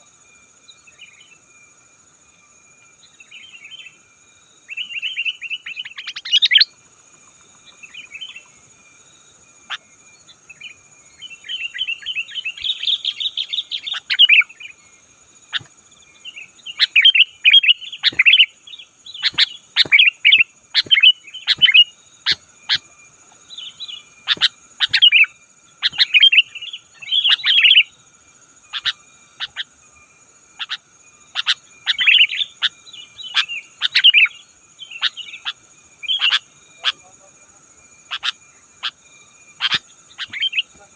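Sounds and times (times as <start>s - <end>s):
bird chirping: 2.9s - 40.9s.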